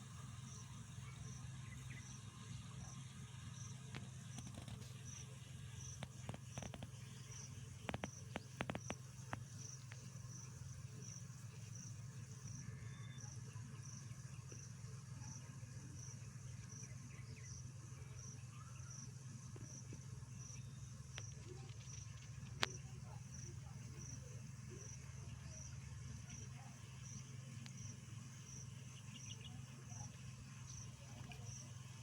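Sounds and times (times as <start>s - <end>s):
insect chirping: 0.0s - 2.2s, 2.8s - 32.0s
steady low hum: 0.0s - 32.0s.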